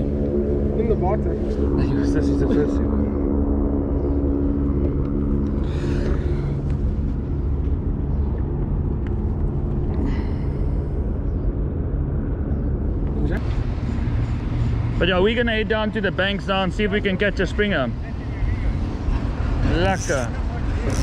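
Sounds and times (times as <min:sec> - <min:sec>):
continuous rumble: 0:00.0 - 0:21.0
low engine hum: 0:00.0 - 0:21.0.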